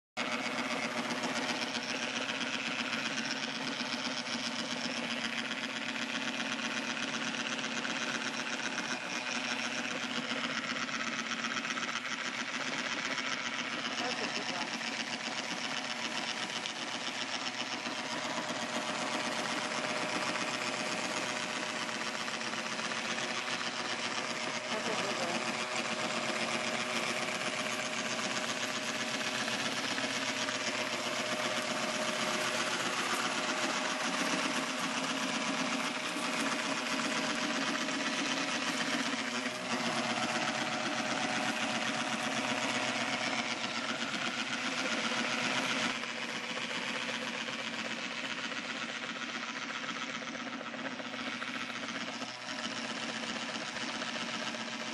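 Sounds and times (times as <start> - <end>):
robot lawn mower motors buzzing: 0.2 - 54.9.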